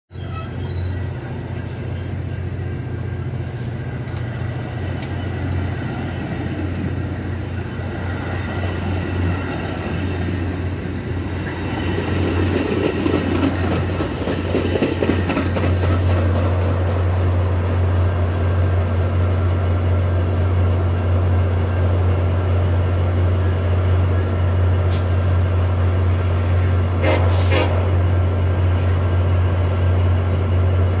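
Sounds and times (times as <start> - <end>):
train cars rumbling on rails: 0.1 - 31.0.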